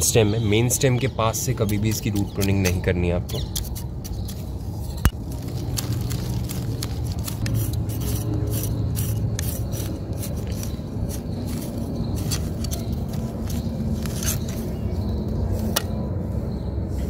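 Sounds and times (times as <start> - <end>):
metal tool scraping soil and roots: 0.6 - 16.0
steady low rumble: 3.3 - 17.0.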